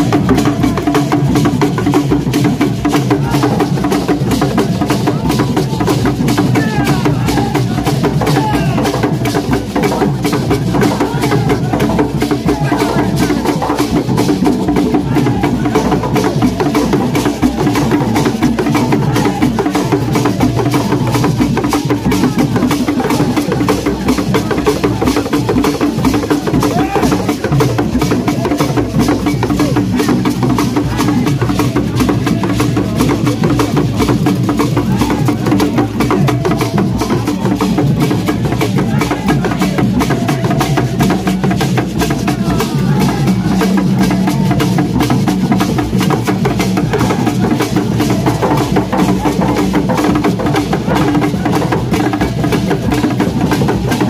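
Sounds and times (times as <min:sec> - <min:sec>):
crowd voices: 0:00.0 - 0:54.0
hand drum ensemble: 0:00.0 - 0:54.0.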